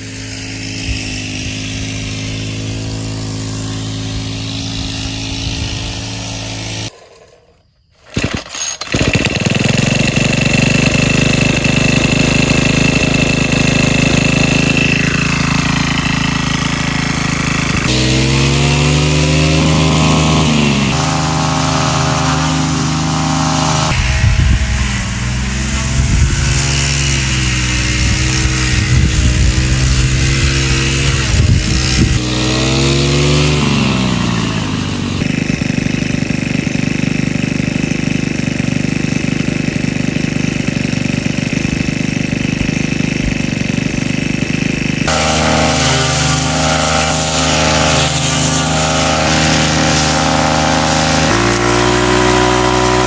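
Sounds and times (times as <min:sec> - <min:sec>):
engine revving: 0:00.0 - 0:07.2, 0:08.9 - 0:53.0.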